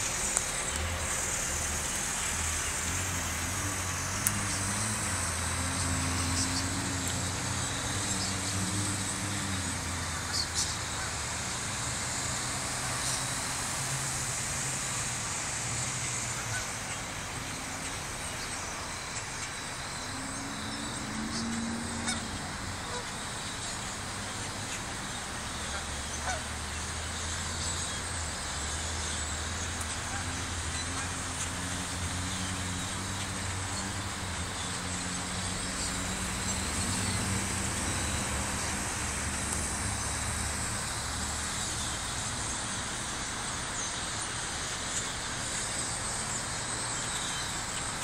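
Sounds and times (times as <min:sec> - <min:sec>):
flock of birds calling: 0:00.0 - 0:48.0.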